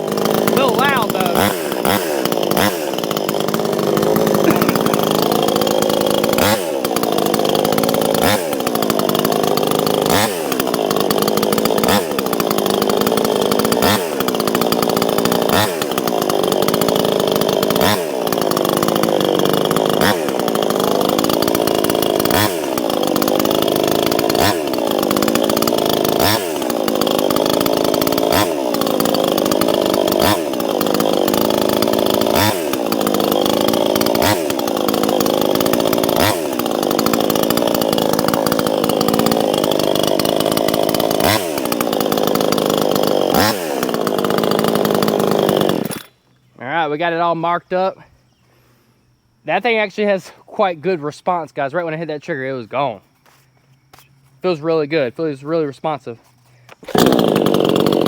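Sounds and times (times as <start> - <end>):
chainsaw running: 0.0 - 47.4, 54.4 - 58.0.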